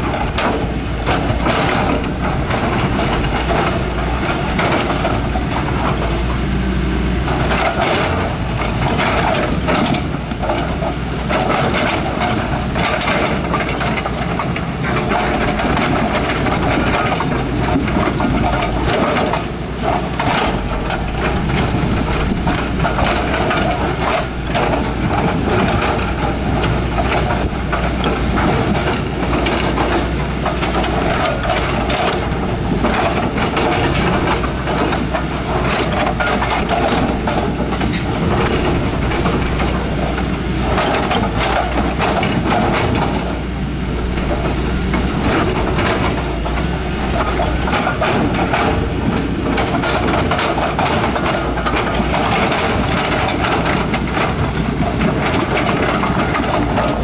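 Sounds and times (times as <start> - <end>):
knocks and clatter: 0.0 - 6.4, 7.2 - 57.0
diesel machinery engine drone: 0.0 - 57.0.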